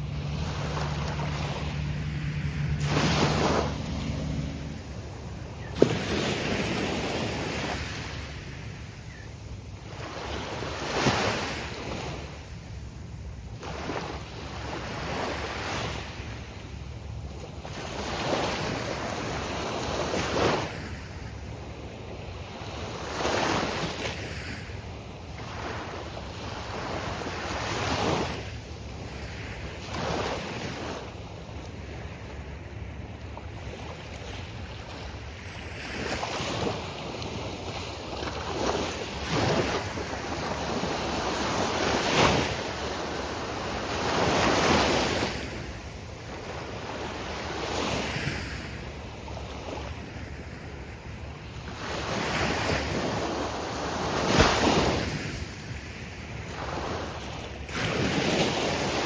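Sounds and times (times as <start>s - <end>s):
surf breaking on a sandy beach: 0.0s - 16.5s, 17.5s - 59.0s.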